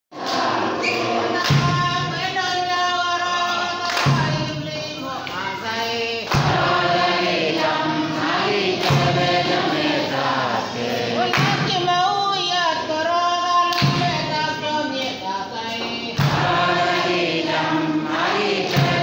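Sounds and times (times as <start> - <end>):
church choir singing: 0.1 - 12.3, 15.1 - 19.0.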